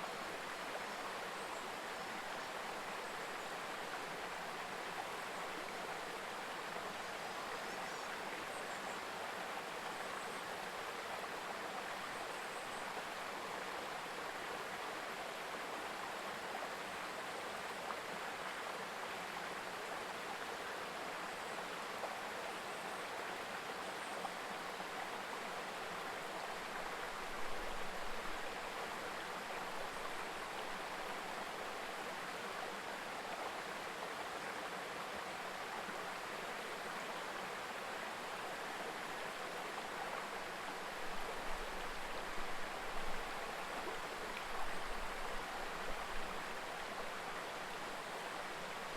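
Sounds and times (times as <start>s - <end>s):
river babbling: 0.0s - 48.9s.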